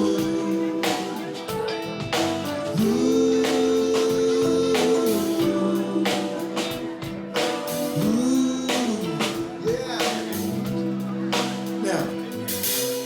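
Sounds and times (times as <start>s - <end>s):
live band playing: 0.0s - 13.0s
steady drum beat: 0.0s - 13.0s.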